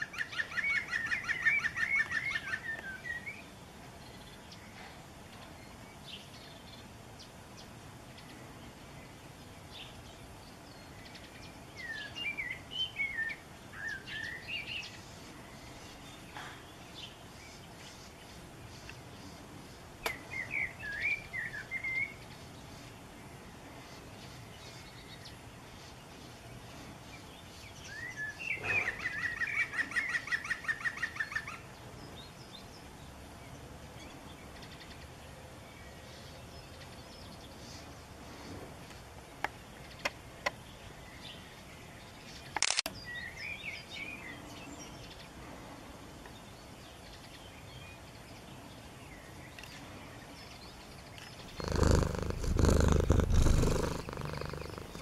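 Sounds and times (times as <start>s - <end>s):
small birds chirping: 0.0s - 45.4s, 46.3s - 55.0s.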